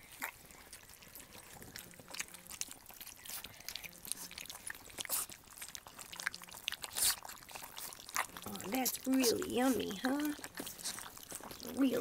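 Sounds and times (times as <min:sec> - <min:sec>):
puppies slurping food: 0:00.0 - 0:12.0.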